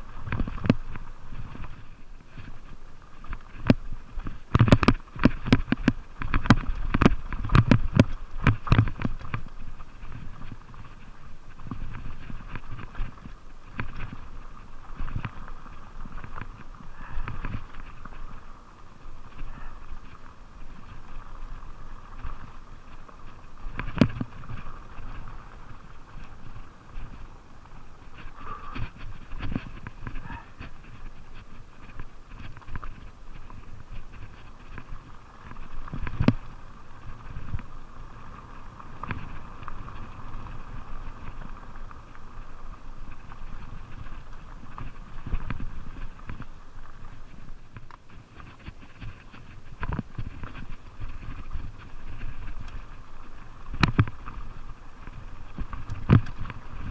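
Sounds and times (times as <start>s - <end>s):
bike rattling: 0.0s - 56.9s
bike tyres on dirt trail: 0.0s - 56.9s.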